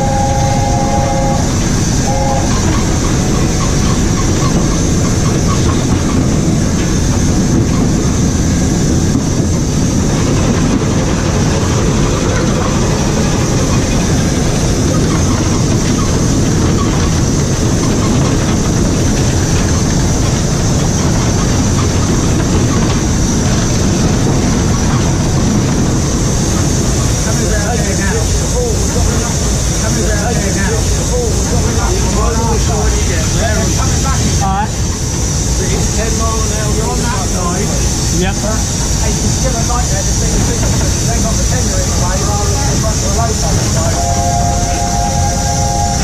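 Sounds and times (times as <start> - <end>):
steam locomotive running rumble: 0.0 - 46.0.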